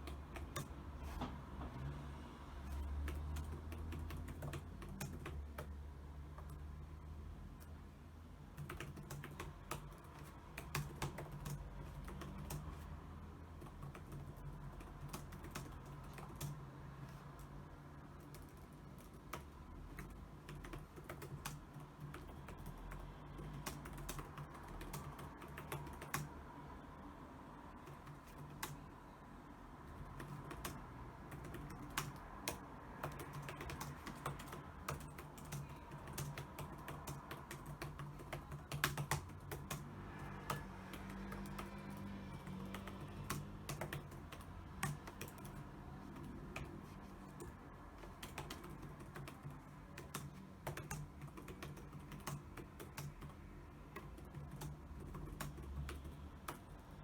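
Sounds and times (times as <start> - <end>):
keyboard typing: 0.0 - 2.0, 2.6 - 7.8, 8.4 - 26.8, 27.6 - 57.0.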